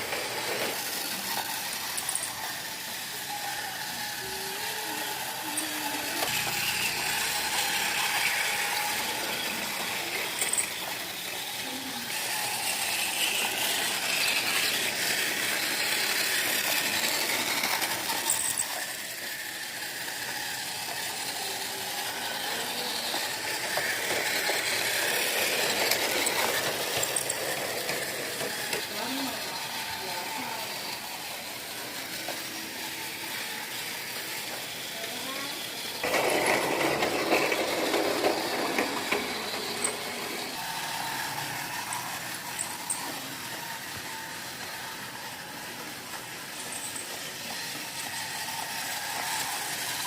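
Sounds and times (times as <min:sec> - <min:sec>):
toy train motor whir: 0:00.0 - 0:50.0.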